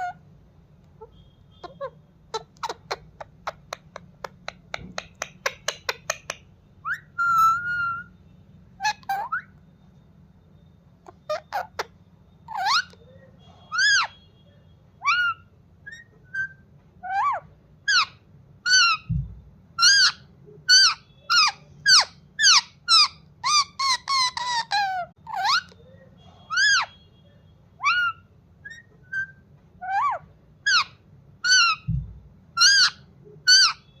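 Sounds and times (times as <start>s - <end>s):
parrot chirps and squawks: 0.0s - 9.7s, 11.0s - 34.0s.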